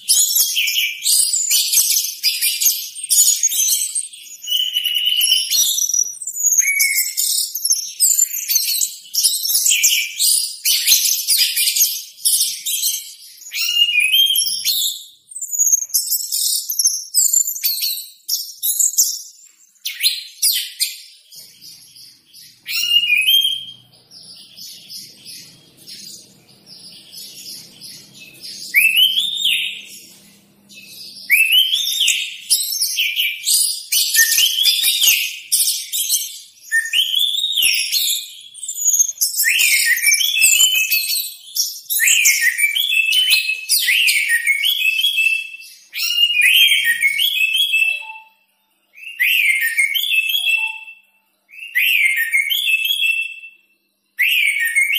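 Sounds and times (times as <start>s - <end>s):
thrush singing whistles and trills: 0.0s - 48.4s, 49.0s - 54.9s.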